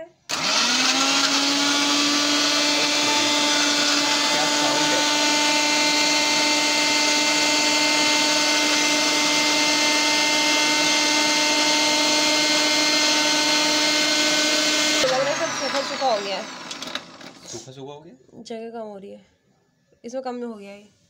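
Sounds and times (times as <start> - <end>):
mixer grinder motor whining: 0.3 - 17.6.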